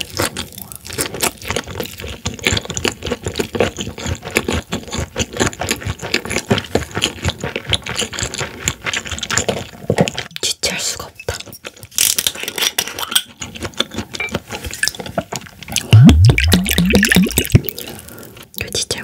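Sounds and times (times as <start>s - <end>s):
chewing with mouth clicks: 0.0s - 10.5s, 11.2s - 19.0s.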